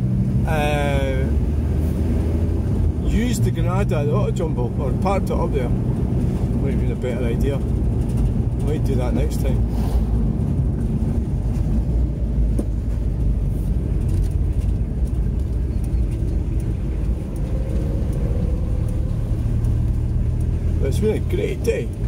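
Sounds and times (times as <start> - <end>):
car cabin engine rumble: 0.0 - 22.0.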